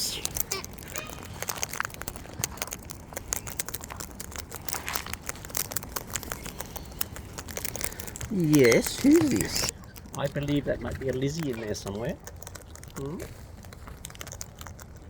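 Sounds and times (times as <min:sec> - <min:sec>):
bird cracking seeds: 0:00.0 - 0:15.0.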